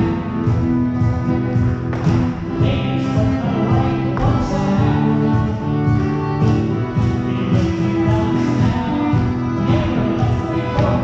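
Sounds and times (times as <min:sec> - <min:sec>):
fiddle and guitar dance tune: 0:00.0 - 0:11.0.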